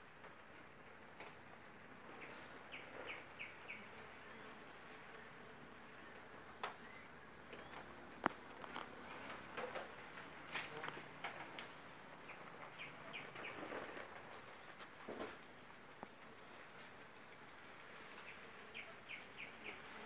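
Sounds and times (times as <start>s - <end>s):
birds chirping: 0.2s - 20.0s
bees buzzing: 0.4s - 20.0s.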